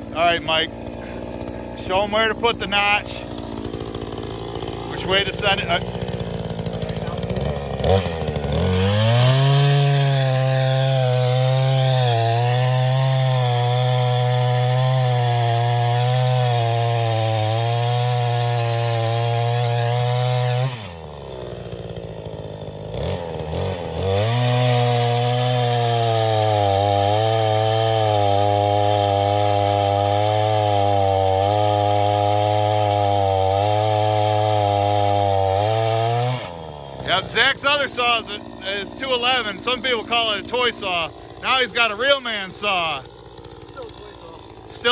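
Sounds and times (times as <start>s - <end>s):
chainsaw cutting wood: 0.0s - 44.9s
chainsaw idling: 0.0s - 44.9s.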